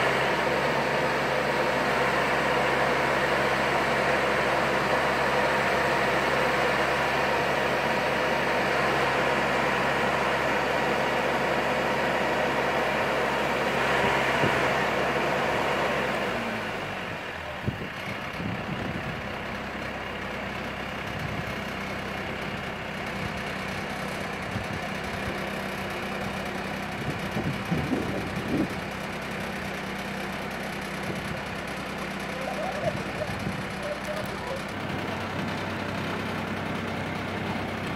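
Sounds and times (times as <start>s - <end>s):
engine humming: 0.0s - 37.9s.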